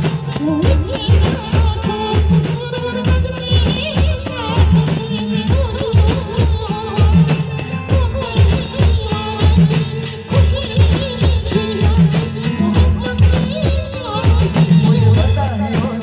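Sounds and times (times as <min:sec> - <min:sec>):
drums keeping steady beat: 0:00.0 - 0:16.0.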